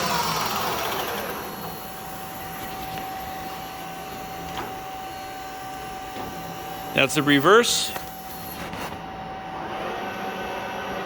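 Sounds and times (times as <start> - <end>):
lathe spindle whine: 0.0 - 11.0.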